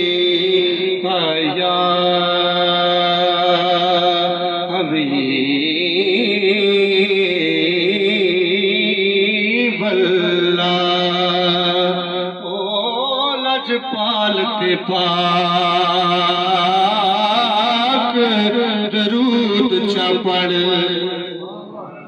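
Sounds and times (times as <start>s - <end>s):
man chanting into a microphone: 0.0s - 22.0s.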